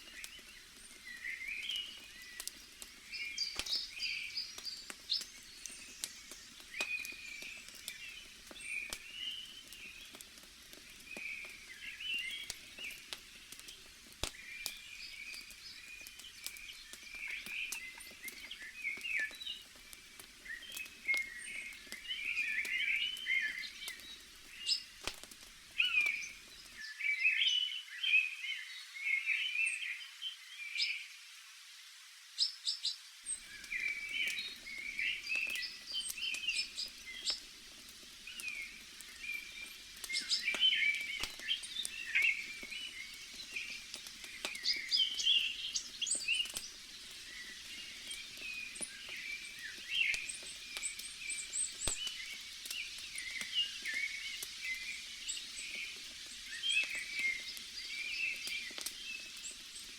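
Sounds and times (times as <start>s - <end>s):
campfire crackling: 0.0s - 27.0s, 32.8s - 59.9s
small birds chirping: 0.0s - 31.1s, 32.4s - 59.9s.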